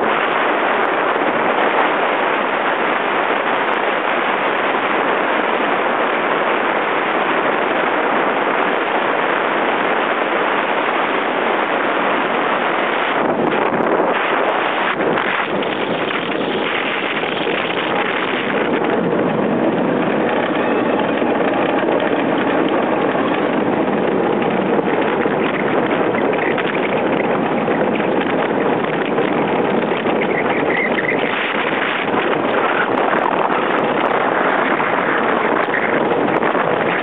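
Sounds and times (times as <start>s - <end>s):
wind: 0.0s - 37.0s.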